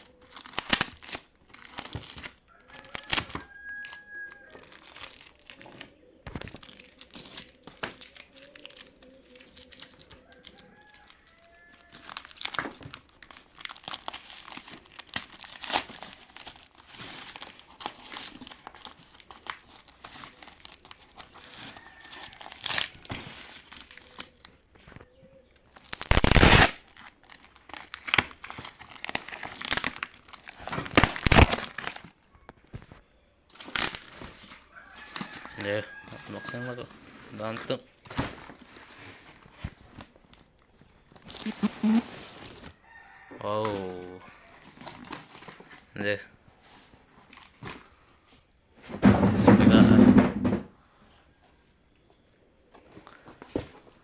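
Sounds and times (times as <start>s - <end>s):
packaging crinkling and rustling: 0.0s - 43.8s, 44.4s - 48.4s.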